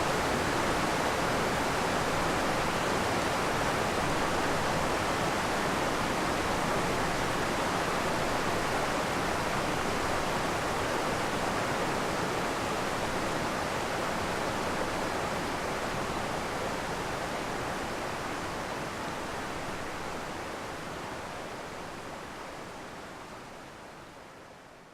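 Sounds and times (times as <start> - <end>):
waterfall roaring: 0.0 - 22.5.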